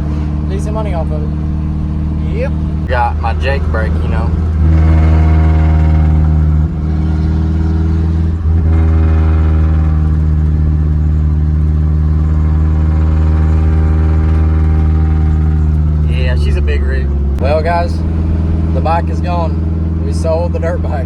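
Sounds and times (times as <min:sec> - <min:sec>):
truck exhaust droning: 0:00.0 - 0:21.0.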